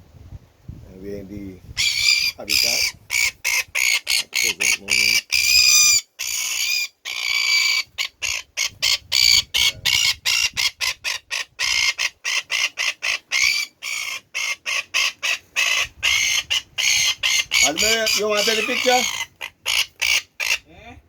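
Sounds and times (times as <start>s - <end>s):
bird screeching: 1.8s - 20.7s.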